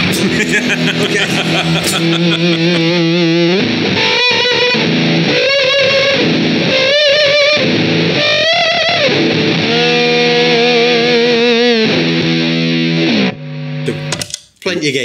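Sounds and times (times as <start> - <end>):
distorted electric guitar notes: 0.0 - 14.4.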